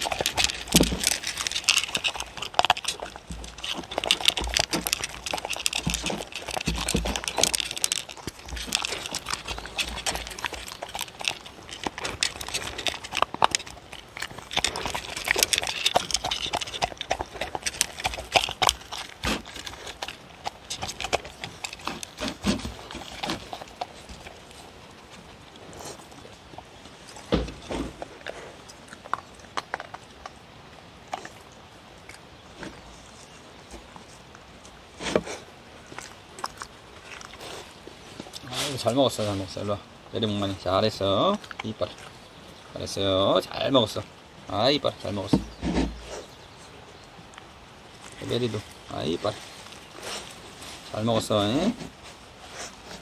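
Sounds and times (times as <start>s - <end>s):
dogs crunching kibble: 0.0s - 53.0s
dogs lapping and licking: 0.0s - 53.0s.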